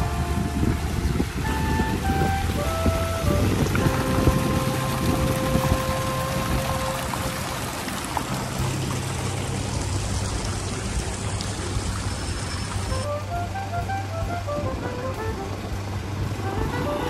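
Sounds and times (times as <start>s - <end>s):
low steady hum: 0.0s - 17.0s
rushing water: 0.0s - 17.0s.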